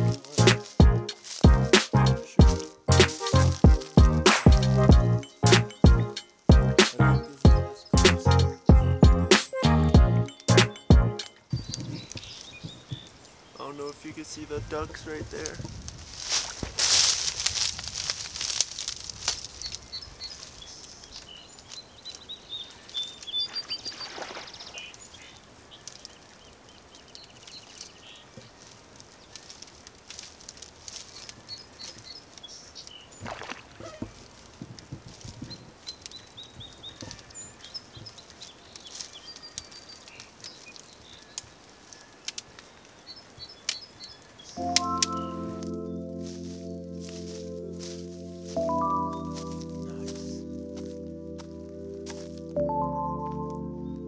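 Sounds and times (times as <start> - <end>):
dry reeds rustling: 0.0 - 8.6, 9.3 - 52.6
small birds chirping: 2.4 - 15.6, 19.2 - 50.7.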